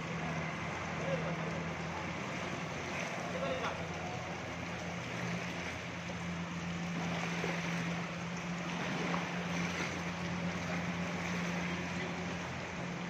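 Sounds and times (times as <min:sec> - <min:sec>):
rain and floodwater hiss: 0:00.0 - 0:13.0
vehicle engine humming: 0:00.0 - 0:13.0.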